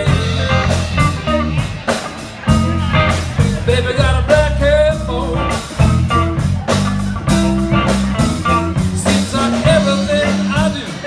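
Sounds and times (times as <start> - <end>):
electric blues band playing: 0.0 - 11.0.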